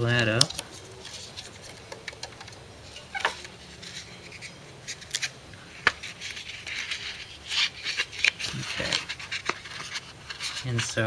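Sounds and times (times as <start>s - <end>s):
plastic film rustling and crackling: 0.3s - 11.0s.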